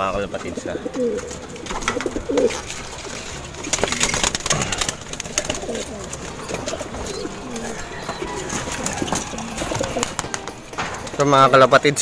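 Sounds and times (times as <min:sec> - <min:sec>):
pigeons cooing: 0:00.0 - 0:11.2
clatter and rustling: 0:01.0 - 0:11.4.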